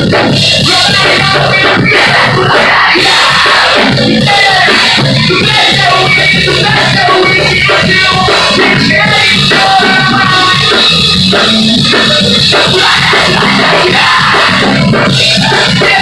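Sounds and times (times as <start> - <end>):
drums: 0.0 - 16.0
electric guitars: 0.0 - 16.0
person singing: 0.0 - 16.0.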